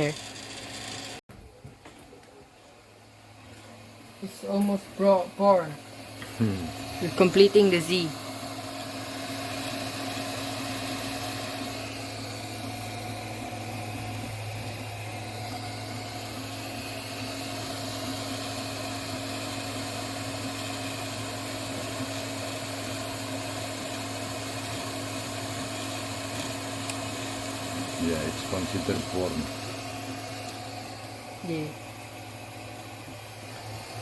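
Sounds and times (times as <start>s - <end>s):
printer motors and fans humming: 3.5s - 34.0s.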